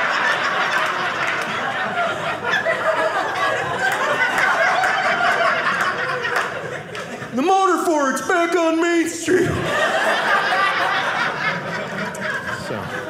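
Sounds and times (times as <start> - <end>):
studio audience laughing: 0.0 - 7.4, 9.3 - 13.0.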